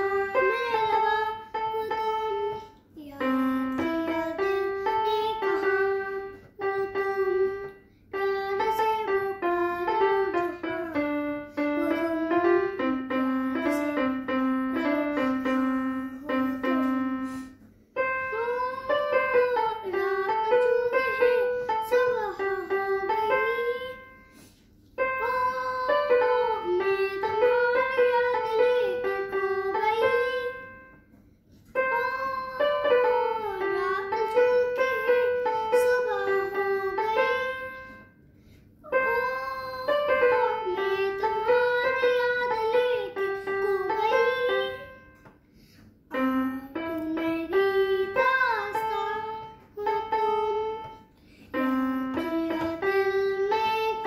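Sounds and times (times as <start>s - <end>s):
child singing: 0.0s - 24.2s, 25.0s - 30.9s, 31.7s - 38.0s, 38.9s - 45.2s, 46.1s - 51.0s, 51.6s - 54.0s
electronic keyboard melody: 0.0s - 24.3s, 25.0s - 31.1s, 31.7s - 38.2s, 38.9s - 45.3s, 46.1s - 54.0s.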